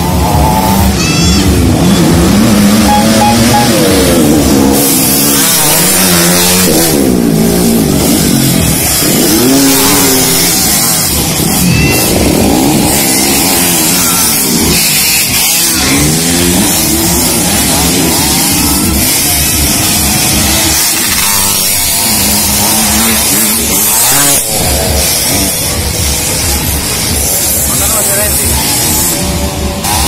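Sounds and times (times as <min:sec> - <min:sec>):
motorcycles revving: 0:00.0 - 0:30.0.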